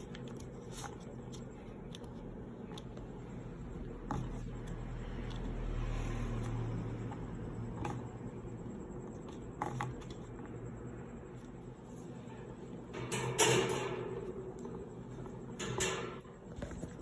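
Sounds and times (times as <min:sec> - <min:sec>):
industrial fan humming: 0:00.0 - 0:17.0.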